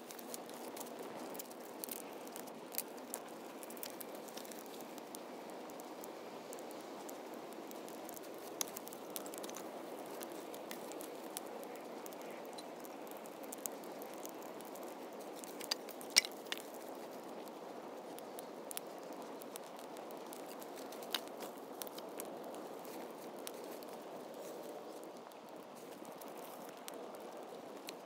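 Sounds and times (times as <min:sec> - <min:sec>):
campfire burning: 0:00.0 - 0:28.0
fire pops and crackles: 0:00.0 - 0:28.0.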